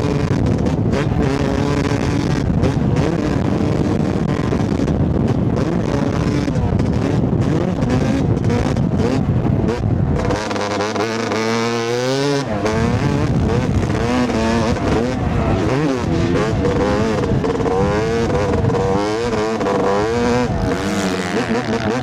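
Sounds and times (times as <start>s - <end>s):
two-stroke dirt bike engine revving: 0.0s - 22.0s.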